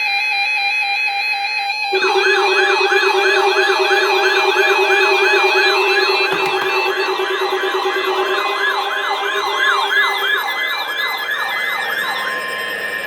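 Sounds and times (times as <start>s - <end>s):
electronic siren yelping: 1.9s - 13.0s
steady high tone: 1.9s - 13.0s.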